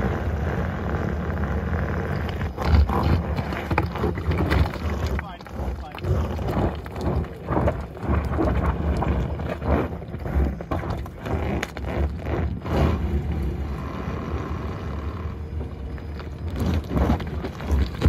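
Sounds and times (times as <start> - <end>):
tyres crunching over gravel: 1.9 - 13.9, 15.2 - 18.0.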